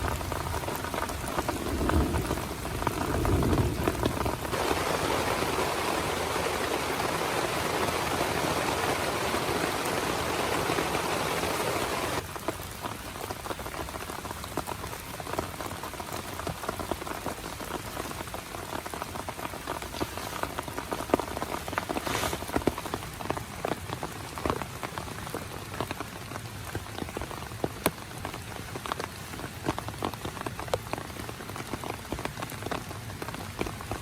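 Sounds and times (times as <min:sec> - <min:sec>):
heavy rain drumming on tent: 0:00.0 - 0:34.0.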